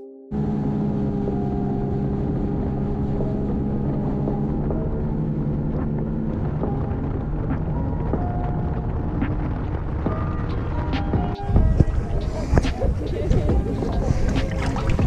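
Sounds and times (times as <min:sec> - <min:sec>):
wind buffeting microphone: 0:00.4 - 0:15.0.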